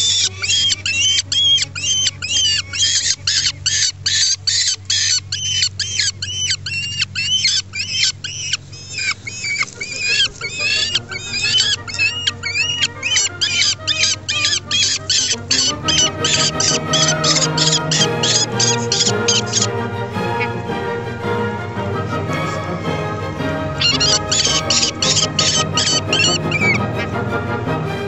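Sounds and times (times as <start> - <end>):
falcon chick calling: 0.0 - 27.3.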